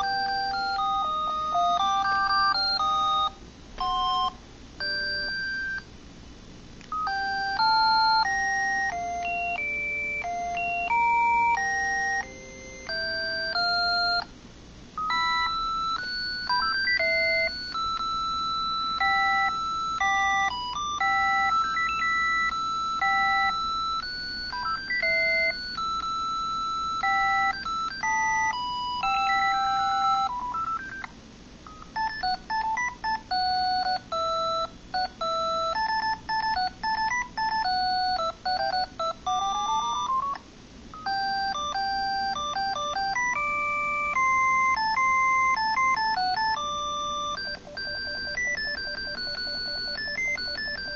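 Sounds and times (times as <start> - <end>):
cell phone beeping ringtones: 0.0 - 5.9, 6.9 - 14.3, 15.0 - 31.1, 31.7 - 40.4, 41.0 - 50.9.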